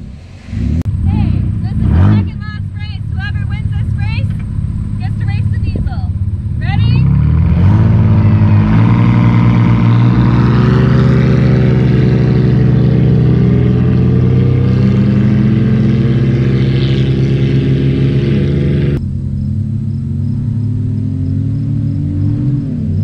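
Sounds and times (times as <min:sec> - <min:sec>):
engine at full throttle: 0:00.0 - 0:23.0.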